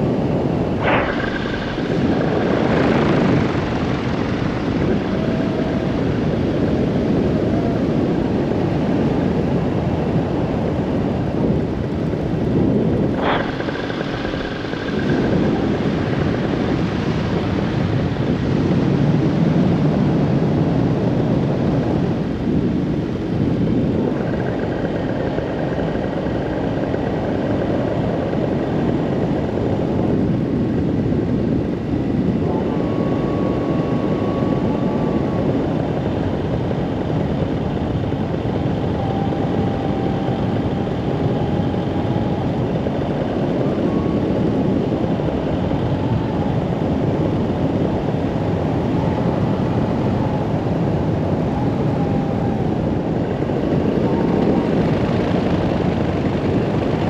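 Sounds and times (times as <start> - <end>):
paramotor engine and propeller: 0.0 - 57.0
wind noise: 0.0 - 57.0.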